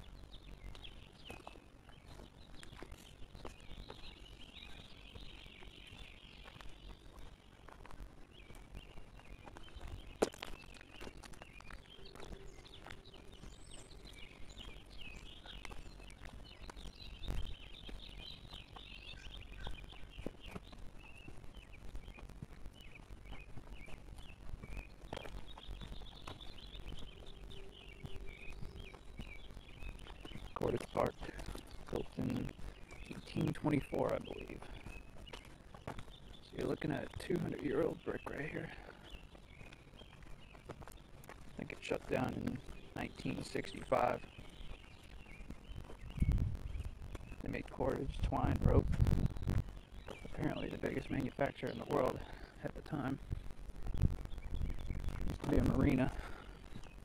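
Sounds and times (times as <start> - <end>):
birds chirping and chattering: 0.0 - 57.0
faint low rumble: 0.0 - 57.0.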